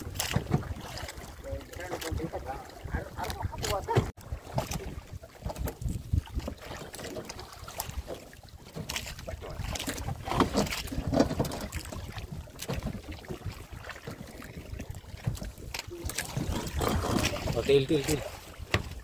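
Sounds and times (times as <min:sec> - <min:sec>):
water splashing: 0:00.0 - 0:19.0
wind rumbling on microphone: 0:00.0 - 0:19.0.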